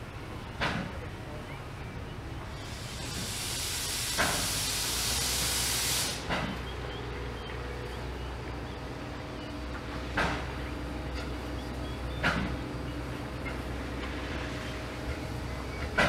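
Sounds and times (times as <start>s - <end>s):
locomotive steam hissing: 0.0s - 16.0s.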